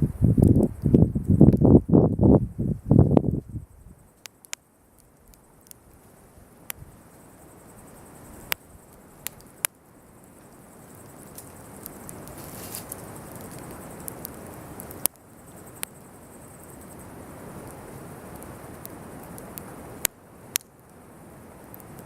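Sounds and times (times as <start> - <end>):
hiss of flames: 0.1 - 22.0
campfire crackling and popping: 0.2 - 2.4, 3.0 - 22.0.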